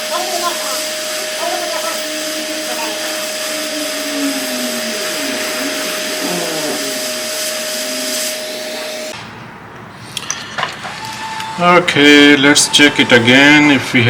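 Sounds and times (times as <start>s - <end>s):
hot air blower hissing and whining: 0.0s - 9.2s, 10.6s - 14.0s.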